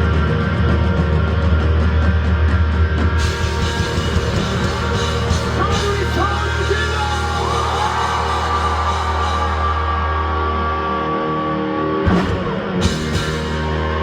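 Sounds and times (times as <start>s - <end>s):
heavy steady bass: 0.0s - 14.0s
live rock band playing: 0.0s - 14.0s.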